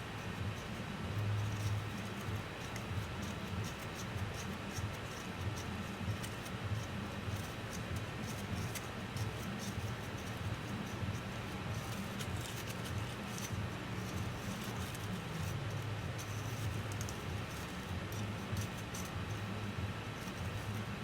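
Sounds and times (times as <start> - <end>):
steady low hum: 0.0 - 21.0
small tool clicks and scratches: 0.1 - 21.0.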